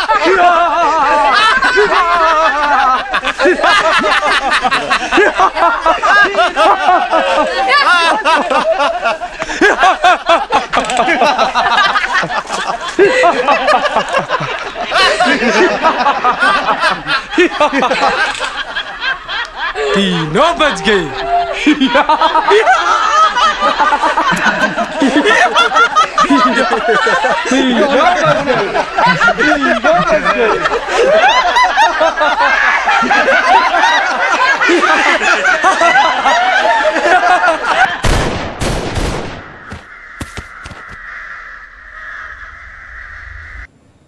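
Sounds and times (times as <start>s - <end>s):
men laughing: 0.0s - 38.0s.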